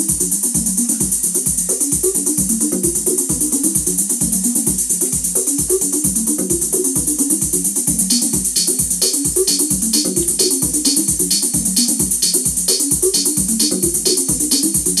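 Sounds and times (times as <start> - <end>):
hi-hats: 0.0 - 15.0
kick drum: 0.0 - 15.0
looping bass line: 0.0 - 15.0.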